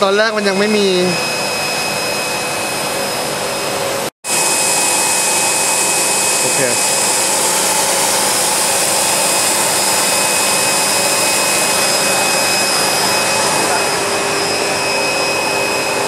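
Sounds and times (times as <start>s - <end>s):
high machine whine: 0.0s - 16.0s
loud blowing air noise: 0.0s - 16.0s.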